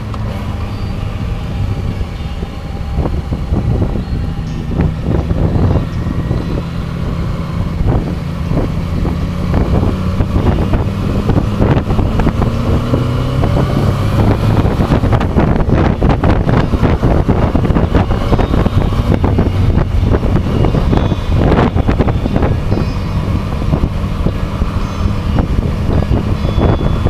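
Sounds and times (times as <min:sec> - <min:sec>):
motorcycle engine accelerating: 0:00.0 - 0:27.0
wind buffeting microphone: 0:00.0 - 0:27.0.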